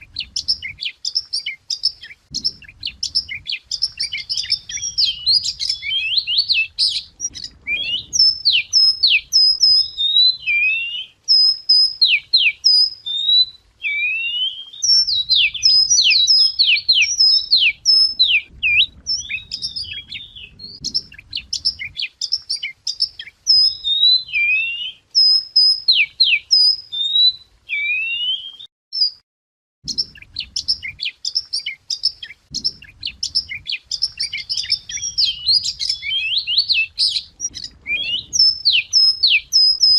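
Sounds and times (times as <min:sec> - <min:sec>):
bird singing whistled notes: 0:00.0 - 0:29.2, 0:29.9 - 0:39.9.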